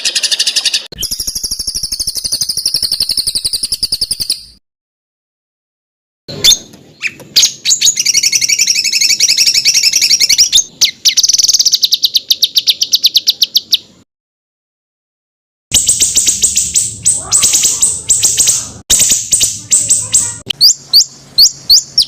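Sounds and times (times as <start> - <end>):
songbird singing trills: 0.0 - 4.6, 6.4 - 14.0, 15.7 - 22.0.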